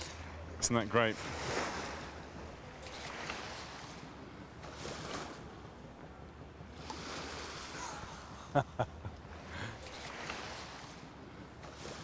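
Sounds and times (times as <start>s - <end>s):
surf: 0.0s - 12.0s
wind: 0.0s - 12.0s.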